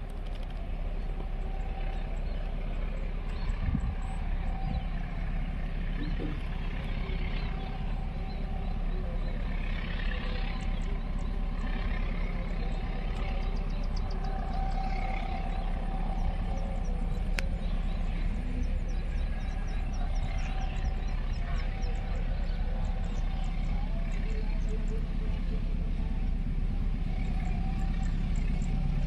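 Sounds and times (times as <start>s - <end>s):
faint steady hum: 0.0s - 29.0s
wind rumbling on microphone: 0.0s - 29.0s.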